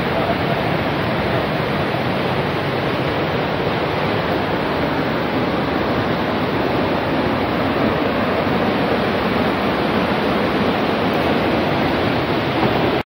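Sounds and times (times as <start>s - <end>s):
whitewater river rushing: 0.0s - 13.0s.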